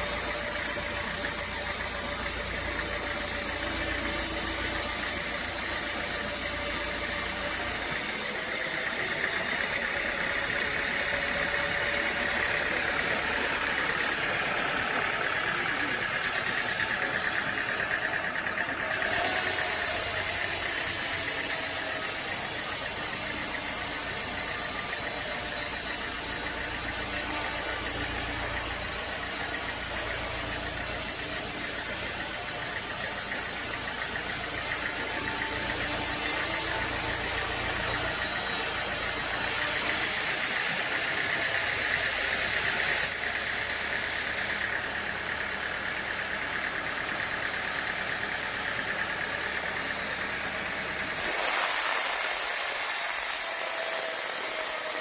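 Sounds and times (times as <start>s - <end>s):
engine running steadily: 0.0s - 55.0s
sawmill machinery: 0.0s - 55.0s.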